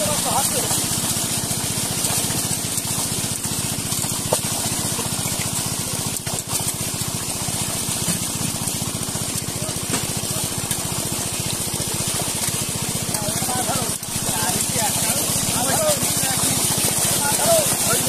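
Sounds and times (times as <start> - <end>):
fish splashing in net: 0.0 - 18.0
small engine running: 0.0 - 18.0.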